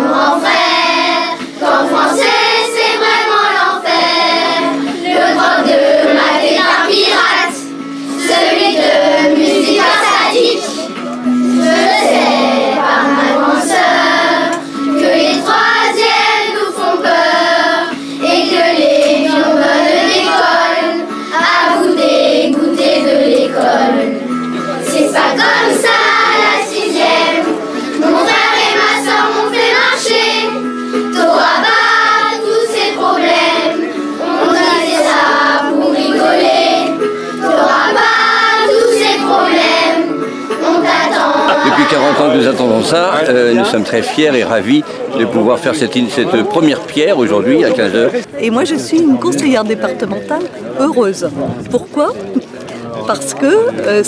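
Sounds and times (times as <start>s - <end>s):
children singing together: 0.0s - 43.3s
instrumental accompaniment: 0.0s - 54.0s.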